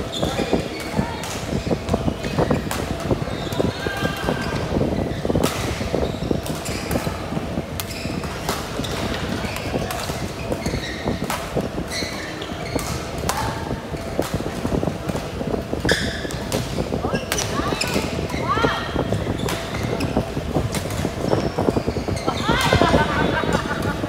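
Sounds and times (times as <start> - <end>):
background noise: 0.0 - 24.0
shoes squeaking: 0.0 - 24.0.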